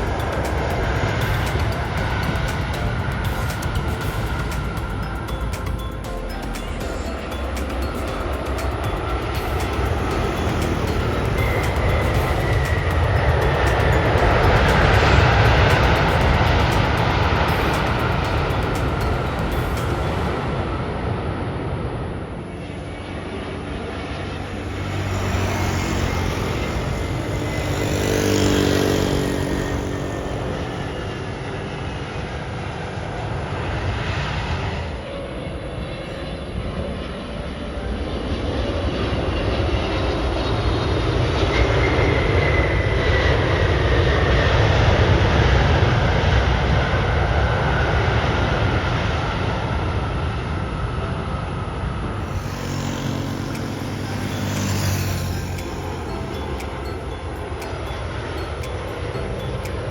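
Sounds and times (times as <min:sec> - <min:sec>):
jet engines roaring: 0:00.0 - 0:05.4, 0:07.3 - 0:44.4, 0:51.5 - 0:59.0.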